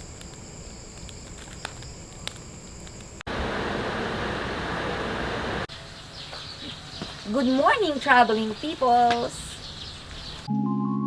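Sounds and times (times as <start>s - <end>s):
insects chirring: 0.0s - 10.5s.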